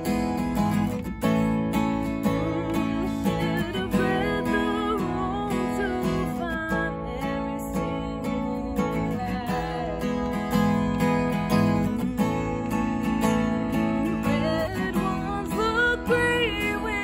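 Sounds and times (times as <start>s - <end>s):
acoustic guitar strumming: 0.0s - 17.0s
woman singing: 1.2s - 17.0s.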